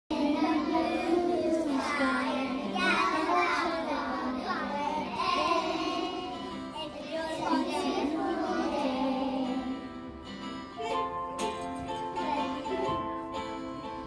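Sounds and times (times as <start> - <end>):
children singing: 0.1 - 10.2, 11.9 - 13.2.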